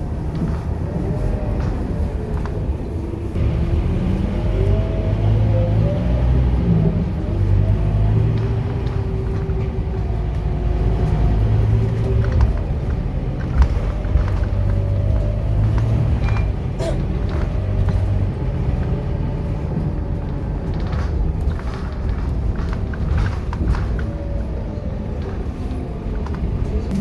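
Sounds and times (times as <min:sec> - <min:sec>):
bus engine rumbling: 0:00.0 - 0:27.0.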